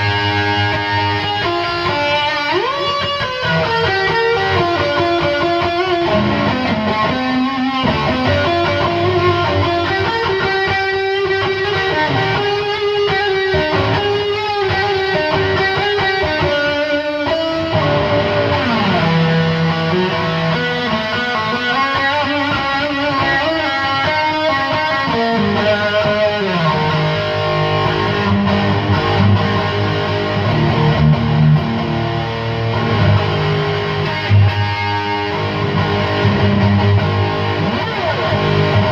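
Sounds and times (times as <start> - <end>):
distorted electric guitar: 0.0 - 38.9.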